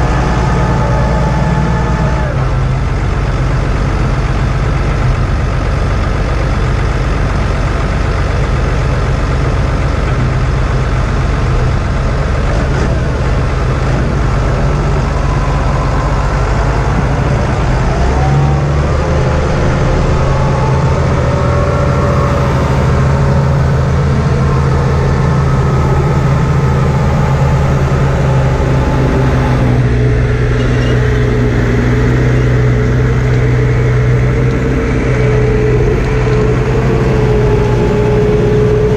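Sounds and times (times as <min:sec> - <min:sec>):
machinery whining: 0:00.0 - 0:38.9
tractor engine running: 0:00.0 - 0:38.9.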